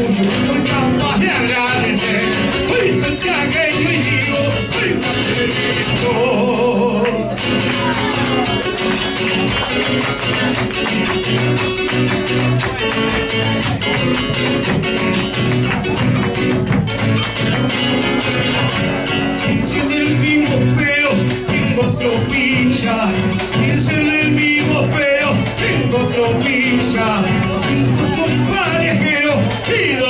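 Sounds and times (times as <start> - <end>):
acoustic guitars strumming: 0.0 - 30.0.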